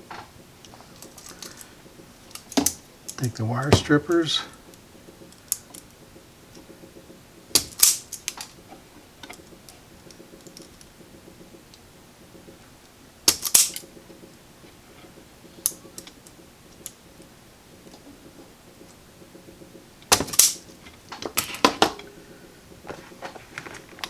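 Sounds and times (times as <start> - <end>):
wire strippers clicking: 0.0 - 24.0.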